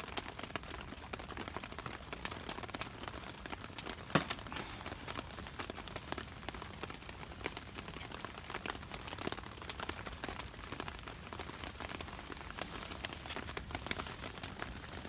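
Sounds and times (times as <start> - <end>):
raindrops striking a surface: 0.0 - 15.0.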